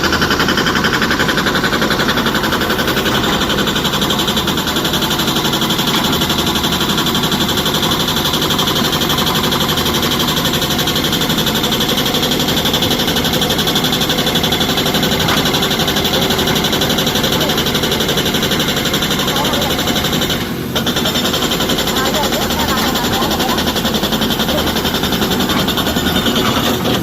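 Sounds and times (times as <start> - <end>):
heavy diesel engine running: 0.0 - 27.0.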